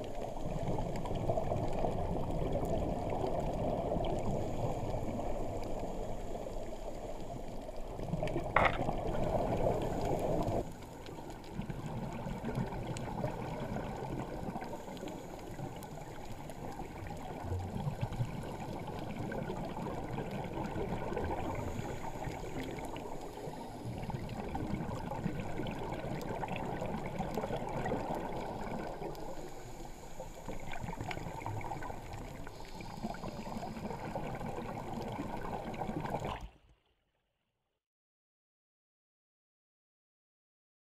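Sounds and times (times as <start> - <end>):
muffled underwater rush: 0.0 - 36.6.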